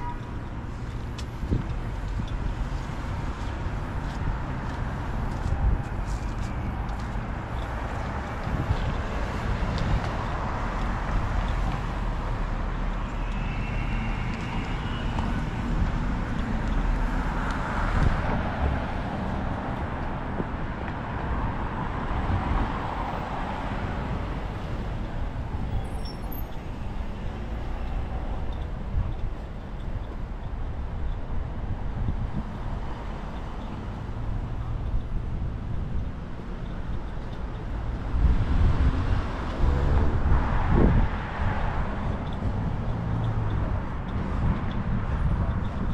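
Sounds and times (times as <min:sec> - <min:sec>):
city street traffic rumble: 0:00.0 - 0:45.9.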